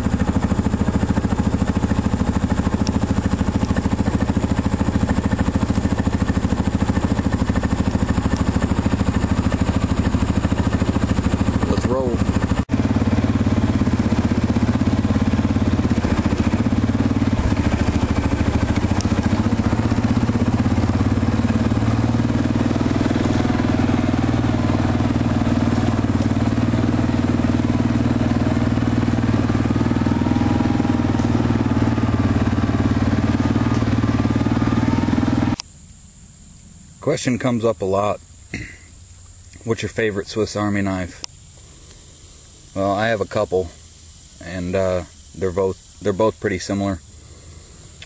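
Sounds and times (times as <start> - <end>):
engine running: 0.0 - 48.0.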